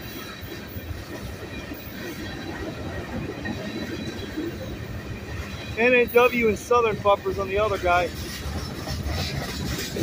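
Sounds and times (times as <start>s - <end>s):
freight train wheels clattering: 0.0s - 10.0s.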